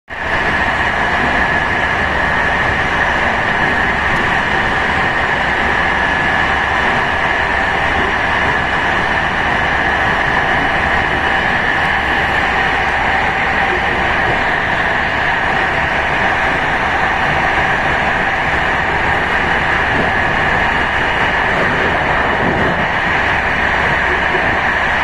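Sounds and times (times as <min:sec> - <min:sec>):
train rumble and hiss: 0:00.1 - 0:25.0.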